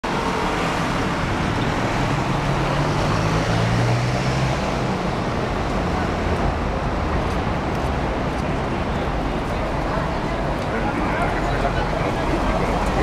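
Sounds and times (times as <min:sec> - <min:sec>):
street traffic noise: 0:00.0 - 0:13.0
passing vehicle engine hum: 0:00.1 - 0:13.0.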